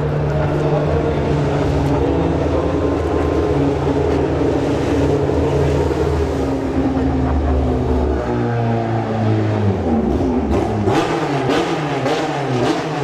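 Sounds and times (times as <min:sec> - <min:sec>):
racing car engine deep rumble: 0:00.0 - 0:13.0.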